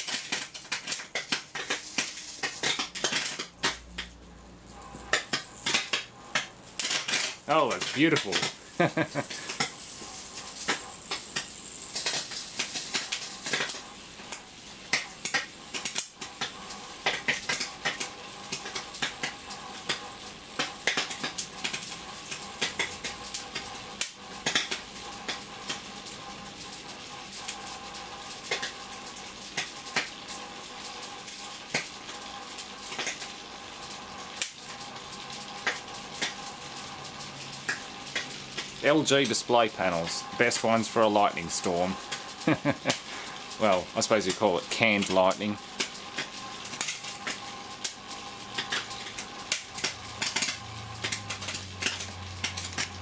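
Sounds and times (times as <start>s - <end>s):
electrical arcing crackles: 0.0s - 53.0s
steady electrical buzz: 0.0s - 53.0s.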